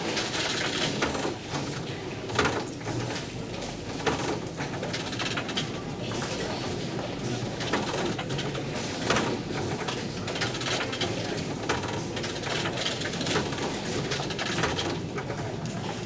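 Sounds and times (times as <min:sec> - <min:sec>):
station background noise: 0:00.0 - 0:16.0
turnstiles clicking and clunking: 0:00.0 - 0:16.0.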